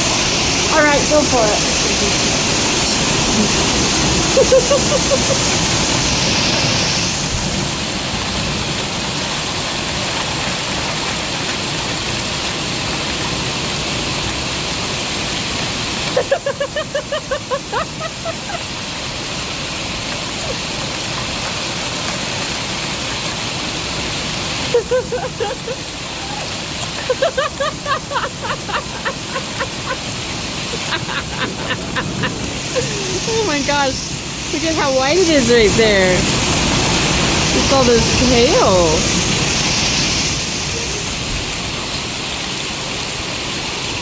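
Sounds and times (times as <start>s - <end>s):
hail and rain falling: 0.0s - 44.0s.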